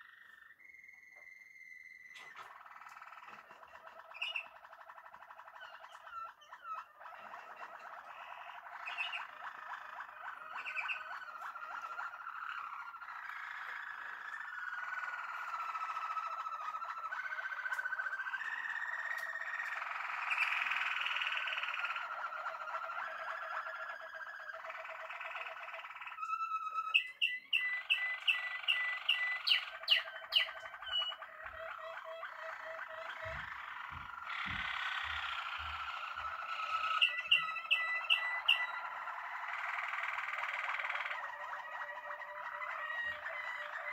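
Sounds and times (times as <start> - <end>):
canaries singing: 0.0 - 43.9.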